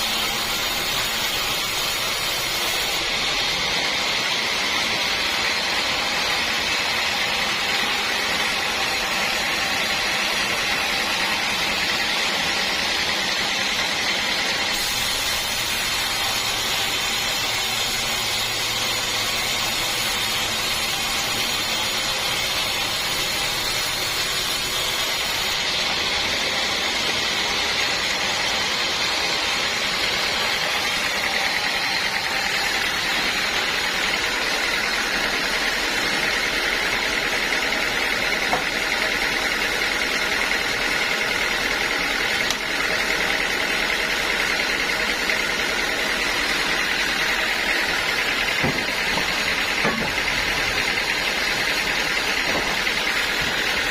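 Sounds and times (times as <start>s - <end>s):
sawmill saw cutting wood: 0.0s - 53.9s.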